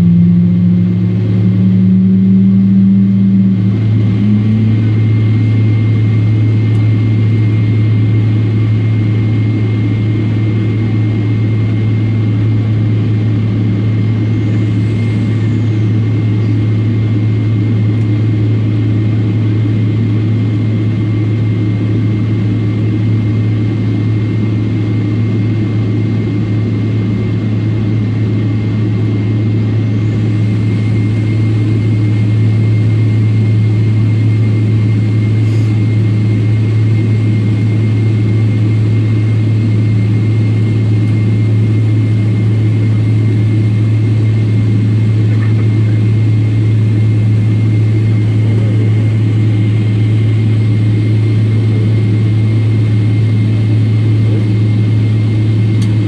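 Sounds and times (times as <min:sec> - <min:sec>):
jet engine hum with high whine: 0:00.0 - 0:56.0.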